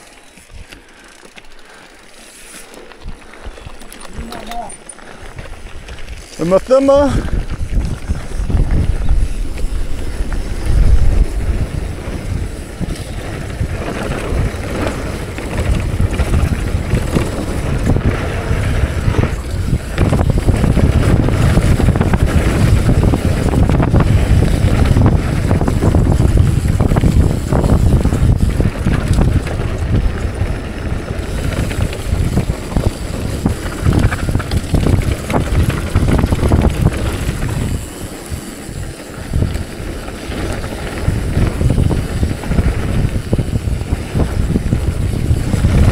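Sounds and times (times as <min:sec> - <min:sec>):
bike rattles and knocks: 0:00.0 - 0:45.9
bike tyres on rough trail: 0:00.0 - 0:45.9
wind buffeting microphone: 0:02.9 - 0:45.9.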